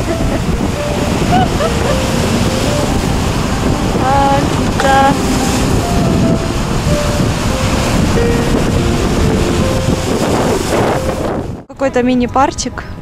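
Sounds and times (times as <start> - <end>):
surf breaking on beach: 0.0 - 11.6
wind buffeting microphone: 0.0 - 13.0.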